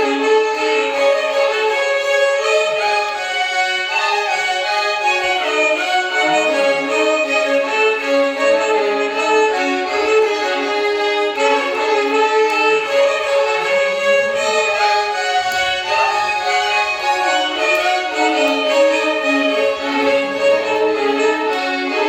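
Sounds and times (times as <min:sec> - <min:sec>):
violins playing melody together: 0:00.0 - 0:22.0.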